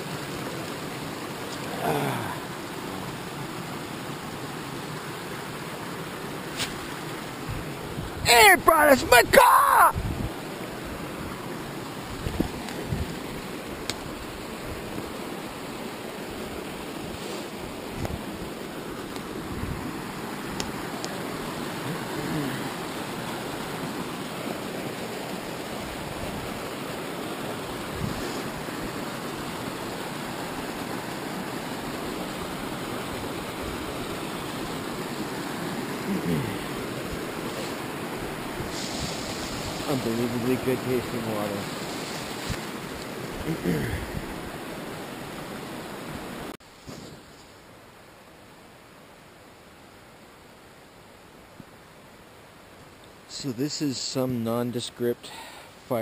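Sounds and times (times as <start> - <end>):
creek cascading over rocks: 0.0 - 56.0.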